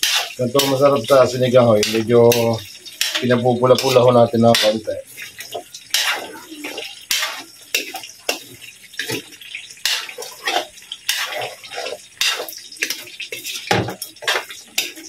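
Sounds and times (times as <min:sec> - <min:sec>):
metal ladle scraping a wok: 0:00.0 - 0:15.0.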